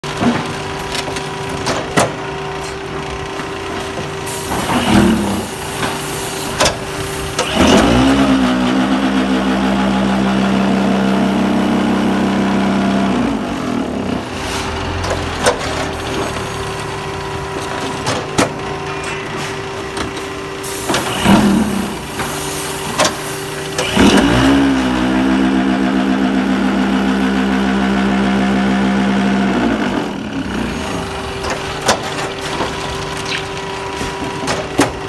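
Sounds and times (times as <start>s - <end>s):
machine mechanical hum: 0.0s - 35.0s
vibrators droning: 0.1s - 35.0s.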